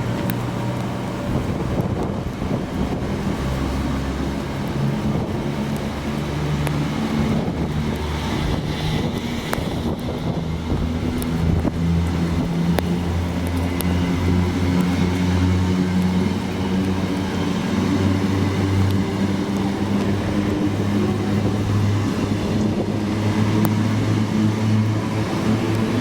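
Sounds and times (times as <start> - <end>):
diesel locomotive engine throbbing: 0.0 - 26.0.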